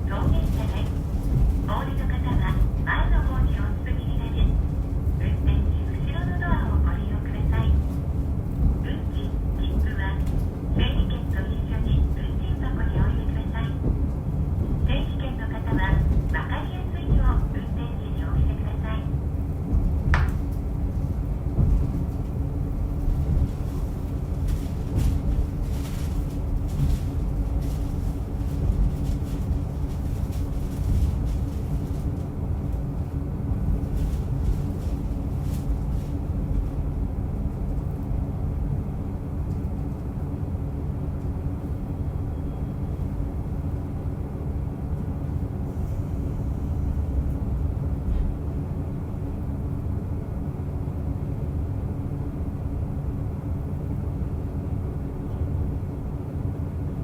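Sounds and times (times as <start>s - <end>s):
railcar engine and wheels droning: 0.0s - 57.0s.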